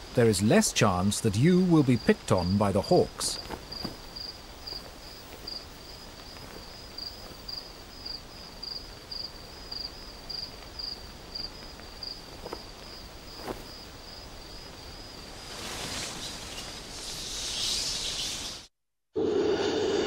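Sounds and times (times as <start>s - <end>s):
faint outdoor dusk ambience: 0.0s - 20.0s
cricket chirping: 1.3s - 18.6s.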